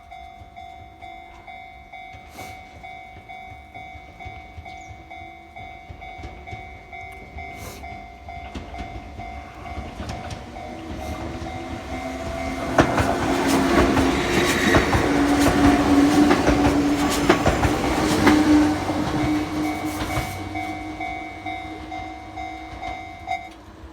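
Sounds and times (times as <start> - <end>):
level crossing warning signal: 0.0 - 23.9
train motors humming: 0.0 - 23.9
train wheels clacking on rail joints: 0.0 - 23.9.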